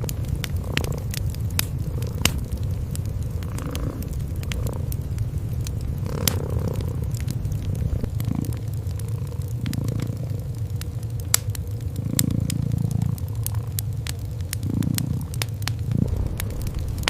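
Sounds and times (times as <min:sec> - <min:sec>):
cats purring: 0:00.0 - 0:17.0
wood fire crackling: 0:00.0 - 0:17.0.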